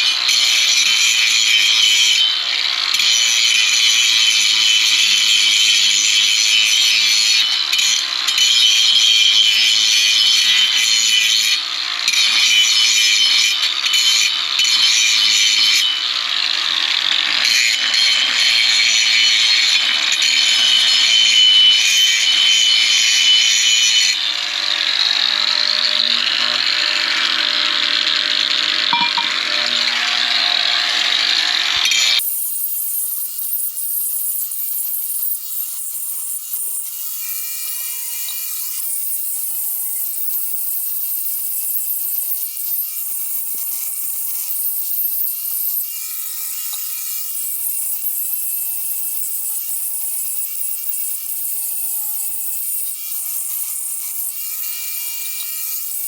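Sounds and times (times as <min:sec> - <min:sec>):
power tool grinding: 0:00.0 - 0:56.0.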